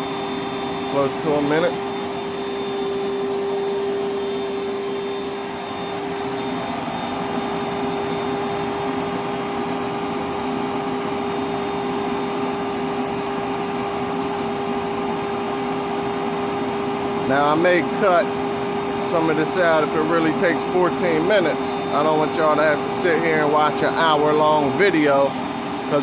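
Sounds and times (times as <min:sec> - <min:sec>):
shop vacuum running: 0:00.0 - 0:26.0.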